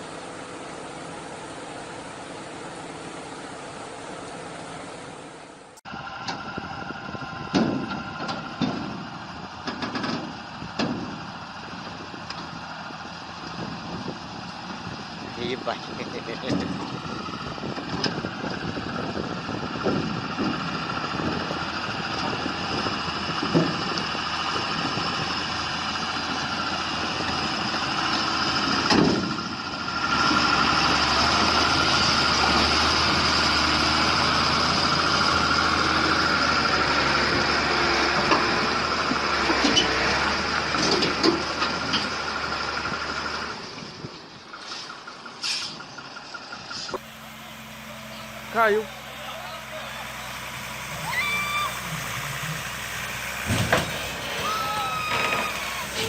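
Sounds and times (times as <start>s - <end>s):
heavy vehicle engine running: 0.0s - 56.0s.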